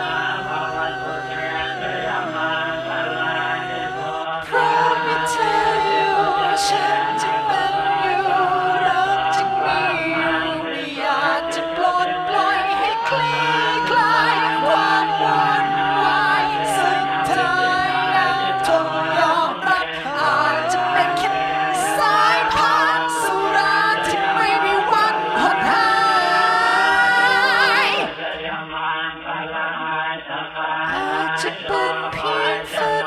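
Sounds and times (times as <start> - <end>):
low sustained drone: 0.0 - 28.2
choir singing gliding notes: 0.0 - 33.0.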